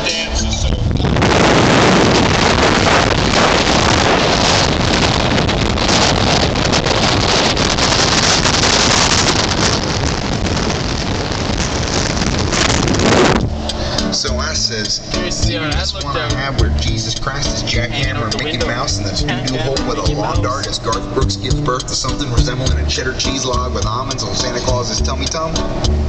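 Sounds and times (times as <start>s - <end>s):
car road noise: 0.0s - 26.0s
wind buffeting microphone: 0.3s - 26.0s.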